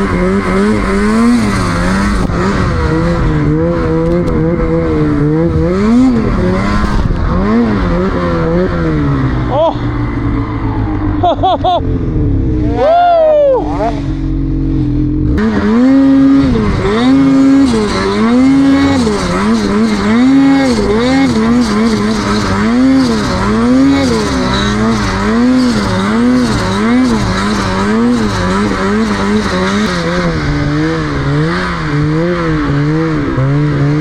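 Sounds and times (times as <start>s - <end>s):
snowmobile engine revving: 0.0s - 34.0s.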